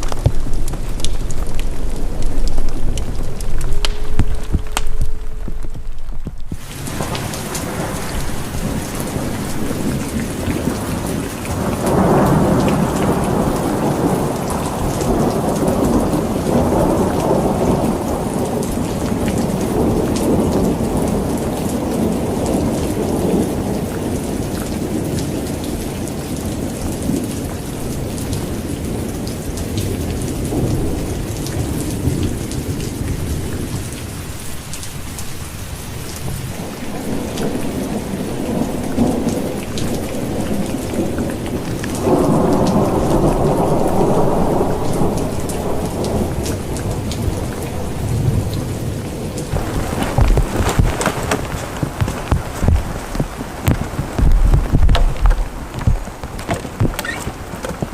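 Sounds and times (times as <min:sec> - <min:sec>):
rolling thunder: 0:00.0 - 0:25.2, 0:34.9 - 0:57.9
heavy rain falling: 0:00.0 - 0:57.9.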